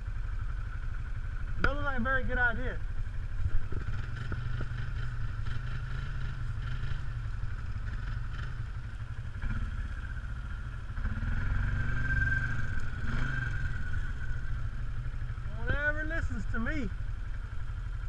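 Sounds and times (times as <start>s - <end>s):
atv engine idling and revving: 0.0s - 18.0s.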